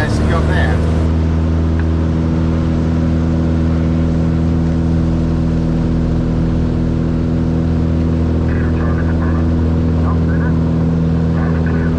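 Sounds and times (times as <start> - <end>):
propeller plane engine drone: 0.0 - 11.9.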